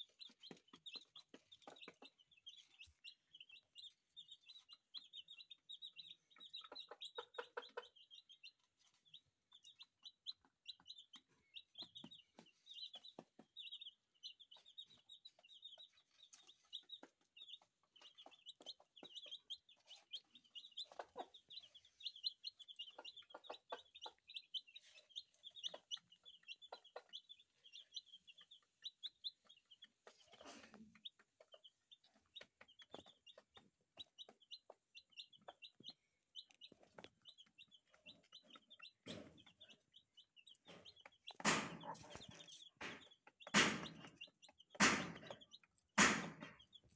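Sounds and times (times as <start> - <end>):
chicks peeping: 0.0 - 46.9
hen clucking: 0.0 - 46.9.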